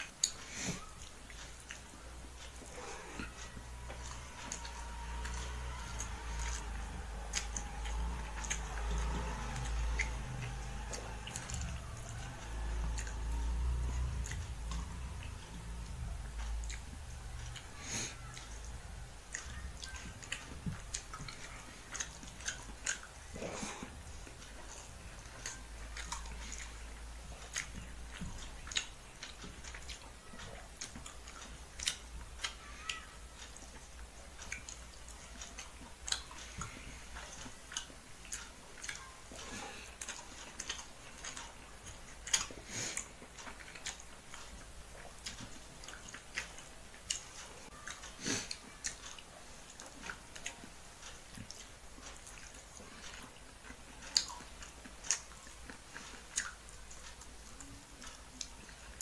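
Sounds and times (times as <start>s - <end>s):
man chewing food: 0.0s - 59.0s.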